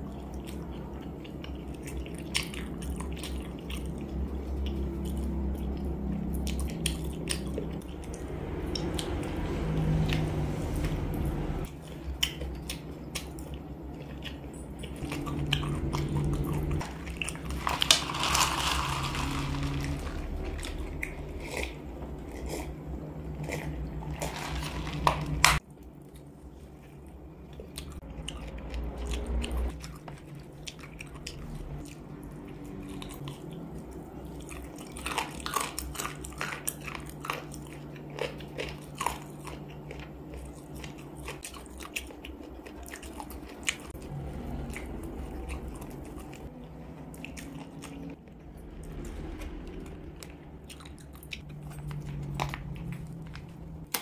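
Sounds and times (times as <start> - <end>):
chewing with crunches and clicks: 0.0 - 54.0.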